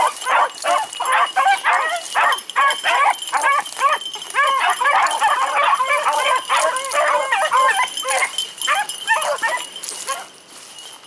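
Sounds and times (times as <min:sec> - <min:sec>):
pack of dogs baying: 0:00.0 - 0:10.4.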